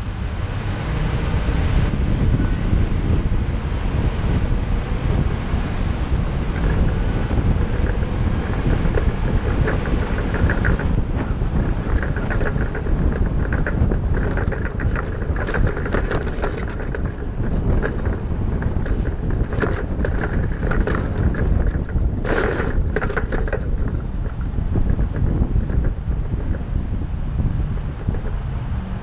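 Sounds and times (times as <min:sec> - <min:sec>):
bus engine and road rumble: 0:00.0 - 0:29.0
rush of noise: 0:00.0 - 0:29.0
rattles: 0:01.9 - 0:28.8.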